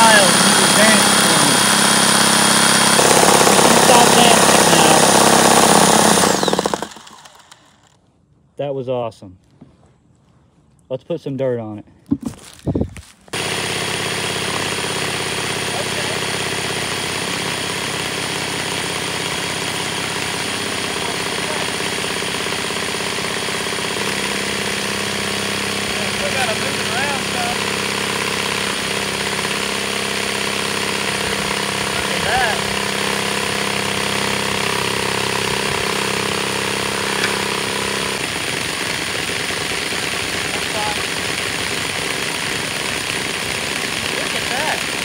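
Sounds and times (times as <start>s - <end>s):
electric drill running: 0.0s - 8.0s, 13.3s - 45.0s.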